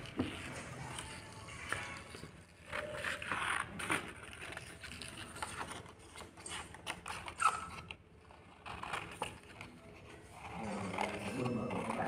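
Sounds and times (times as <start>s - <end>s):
paper rustling: 0.0s - 12.0s
scissors snipping paper: 0.0s - 12.0s.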